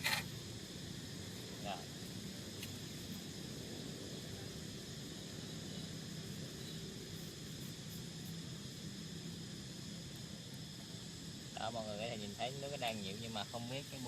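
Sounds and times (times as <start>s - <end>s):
gas stove hissing: 0.0s - 14.0s
insects droning: 0.0s - 14.0s.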